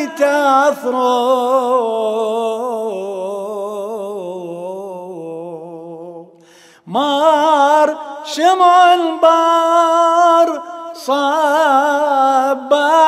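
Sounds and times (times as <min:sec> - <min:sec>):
man singing a hymn solo: 0:00.0 - 0:13.0.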